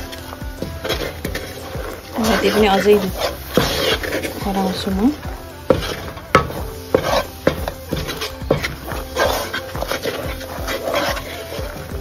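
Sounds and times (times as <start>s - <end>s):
syrup bubbling: 0.0s - 12.0s
wooden spatula scraping pan: 0.0s - 12.0s.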